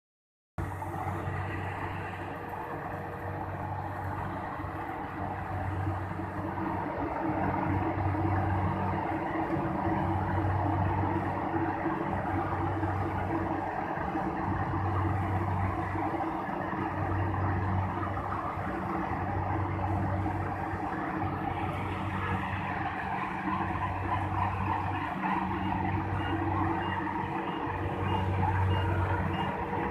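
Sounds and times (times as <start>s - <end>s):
harvesting machine engine hum: 0.6s - 29.9s
mechanical whir and clatter: 0.6s - 29.9s.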